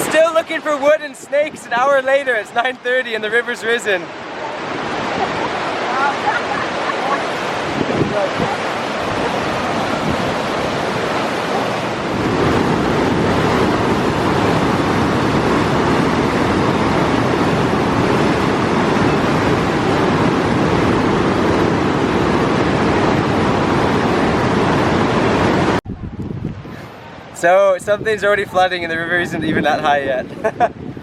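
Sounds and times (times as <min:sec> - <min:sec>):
river rushing: 0:00.0 - 0:25.8.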